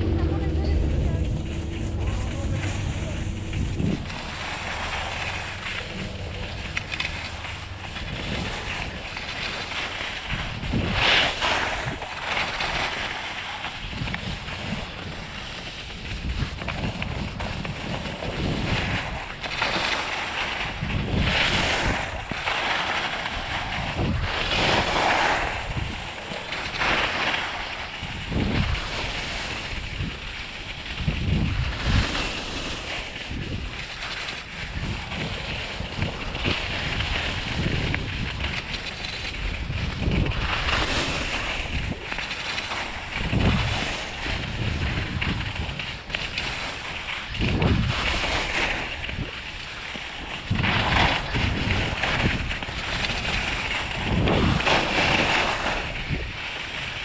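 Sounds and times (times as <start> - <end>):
skis scraping over snow: 0.0 - 57.0
wind on microphone: 0.0 - 57.0.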